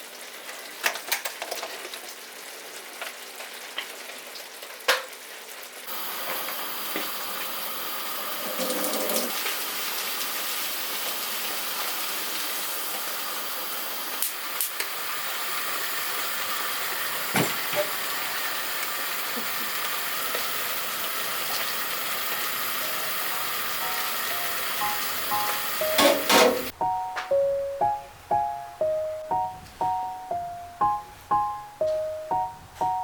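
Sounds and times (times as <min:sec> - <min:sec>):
food sizzling in a pan: 0:00.0 - 0:26.8.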